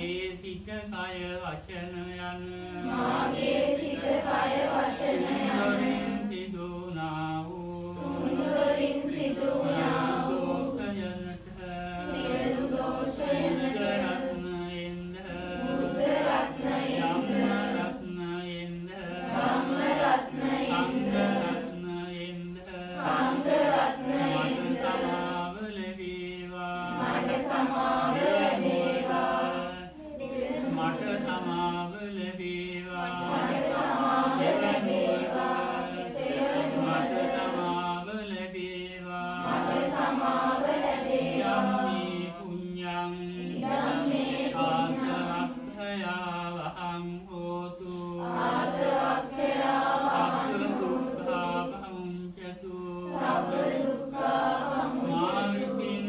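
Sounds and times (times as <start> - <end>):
group chanting: 0.0 - 56.0.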